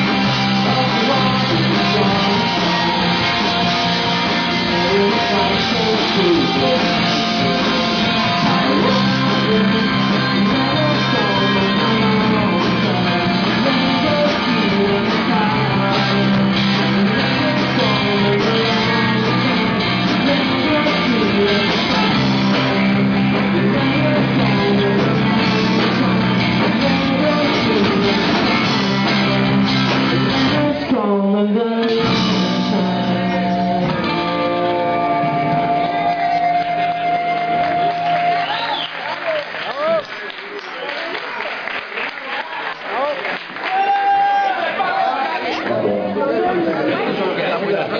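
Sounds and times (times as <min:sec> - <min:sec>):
person singing: 0:00.0 - 0:38.6
bass guitar: 0:00.0 - 0:40.7
electric guitar: 0:00.0 - 0:40.8
drums: 0:00.0 - 0:41.8.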